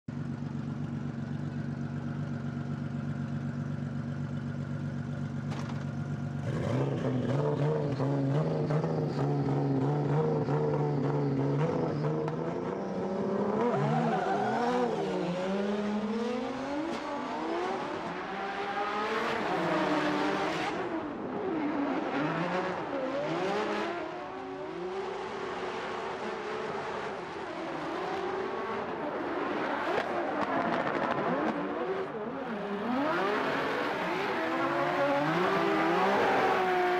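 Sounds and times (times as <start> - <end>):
car engines revving: 0.4 - 36.9.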